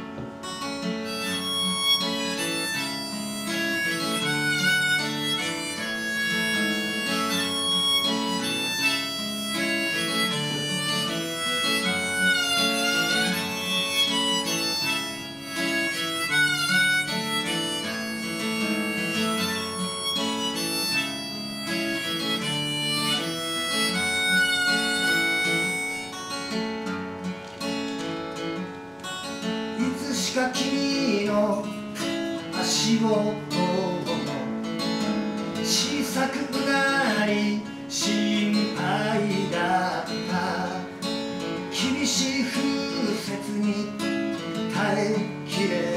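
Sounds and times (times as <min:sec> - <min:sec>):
strummed acoustic guitar: 0:00.0 - 0:45.9
harmonica playing: 0:00.4 - 0:45.9.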